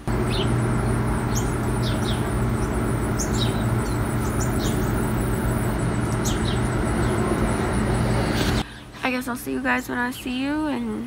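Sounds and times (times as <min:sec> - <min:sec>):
birds chirping: 0:00.0 - 0:08.9
low mechanical hum: 0:00.0 - 0:11.0.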